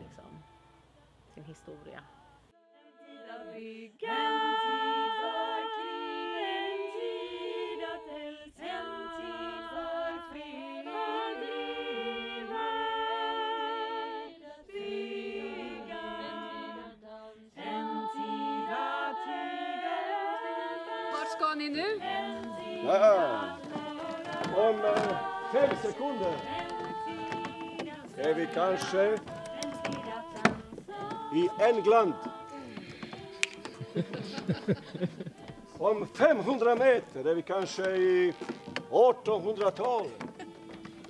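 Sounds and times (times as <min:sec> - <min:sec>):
women singing a cappella: 0:00.0 - 0:41.0.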